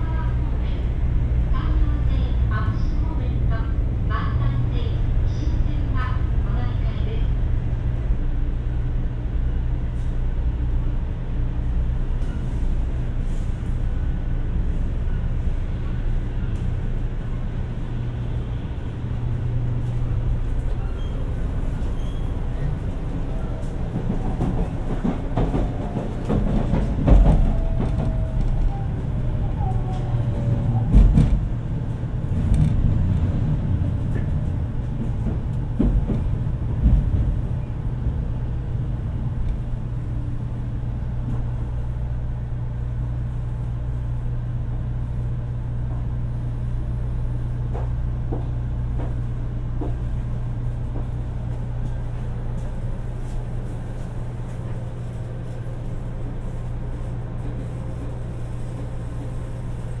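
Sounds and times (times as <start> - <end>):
train interior hum: 0.0 - 60.0.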